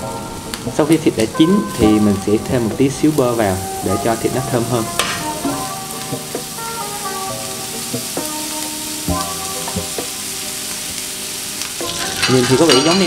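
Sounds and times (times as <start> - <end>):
background music: 0.0 - 13.0
butter sizzling on grill plate: 0.0 - 13.0.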